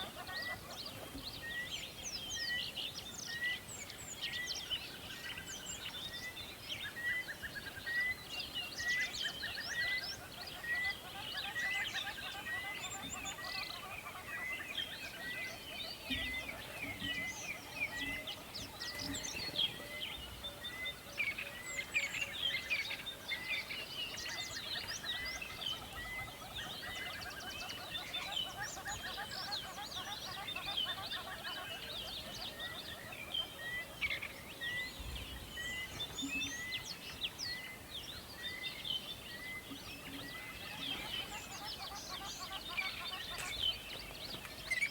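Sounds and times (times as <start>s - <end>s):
birds chirping and singing: 0.0s - 44.9s.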